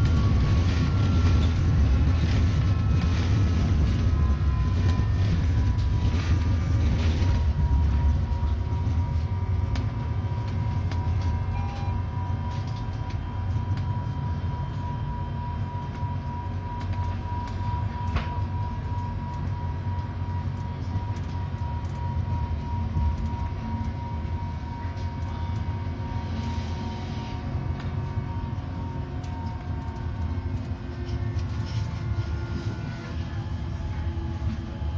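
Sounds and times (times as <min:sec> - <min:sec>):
high whine: 0:00.0 - 0:34.9
wheels rumbling on rail: 0:00.0 - 0:34.9.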